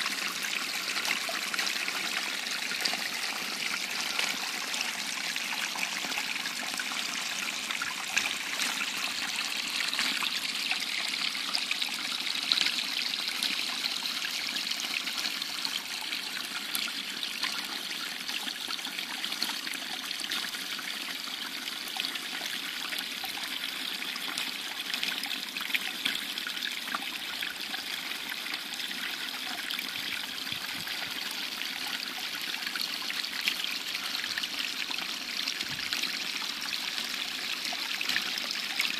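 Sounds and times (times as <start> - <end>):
brook trickling over roots: 0.0 - 20.4, 23.0 - 38.9.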